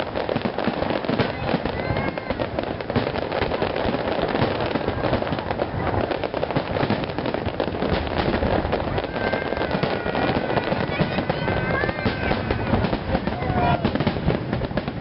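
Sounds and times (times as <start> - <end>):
fireworks crackling and popping: 0.0 - 15.0
fireworks whistling: 0.0 - 15.0.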